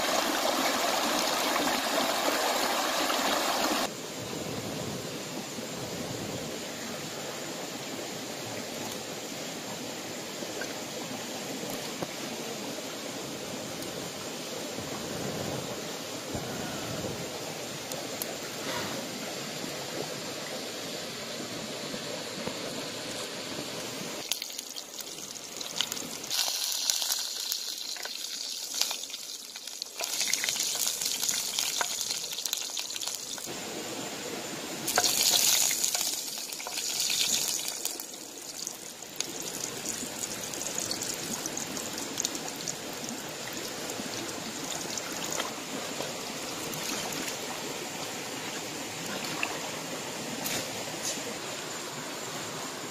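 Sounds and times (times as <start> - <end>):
water running in rocky stream: 0.0 - 4.0, 7.4 - 52.9.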